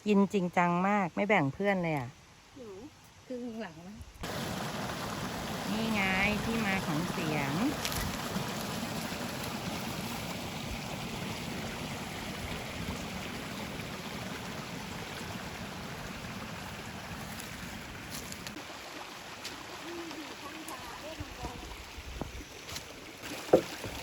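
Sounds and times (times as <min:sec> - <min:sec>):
stream flowing: 0:04.2 - 0:24.0.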